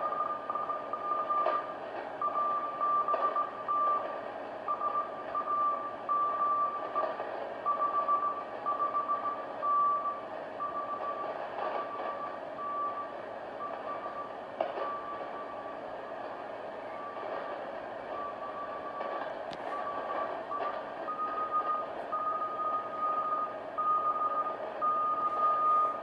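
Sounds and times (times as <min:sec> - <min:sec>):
morse code beeps: 0:00.0 - 0:15.8, 0:18.1 - 0:26.0.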